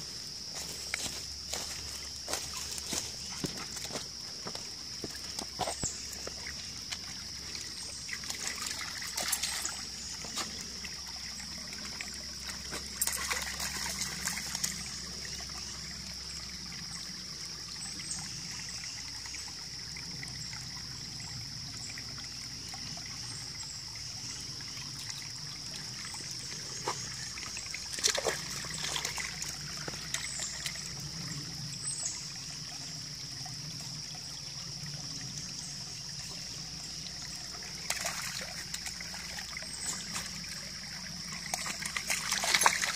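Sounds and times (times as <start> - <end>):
creek trickling over stones: 0.0 - 42.9.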